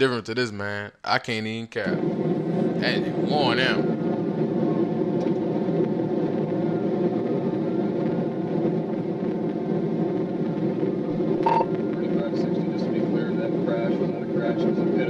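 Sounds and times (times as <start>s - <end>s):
car engine and road drone: 1.9s - 15.0s.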